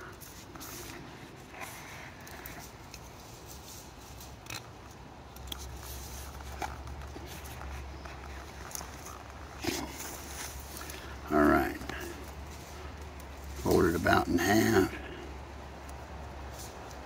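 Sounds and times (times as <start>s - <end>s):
rustles and clicks of twisting root: 0.0s - 17.0s.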